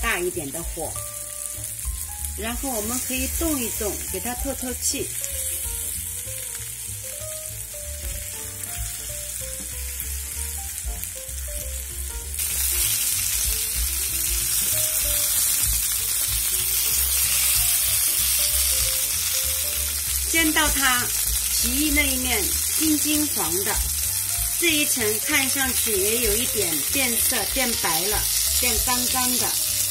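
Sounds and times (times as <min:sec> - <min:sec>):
chicken sizzling in oil: 0:00.0 - 0:29.9
soft background melody: 0:00.0 - 0:29.9.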